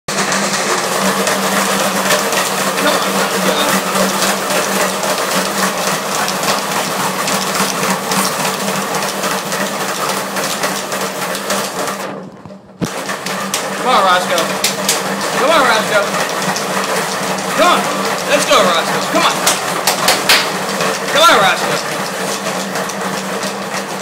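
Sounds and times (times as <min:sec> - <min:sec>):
treadmill motor hum: 0:00.1 - 0:24.0.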